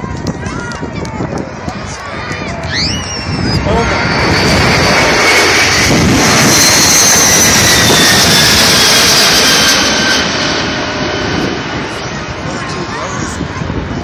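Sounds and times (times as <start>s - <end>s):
jet aircraft passing overhead: 0.0s - 14.0s.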